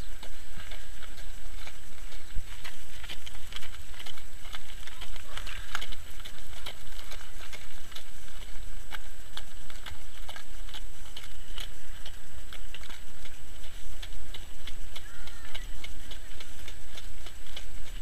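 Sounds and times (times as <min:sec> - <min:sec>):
hooves clip-clopping on sand: 0:00.0 - 0:18.0.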